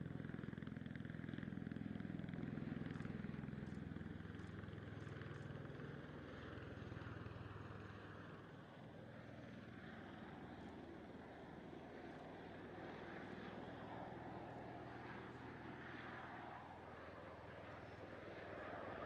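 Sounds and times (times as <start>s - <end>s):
tiltrotor aircraft rotor throb: 0.0s - 19.0s.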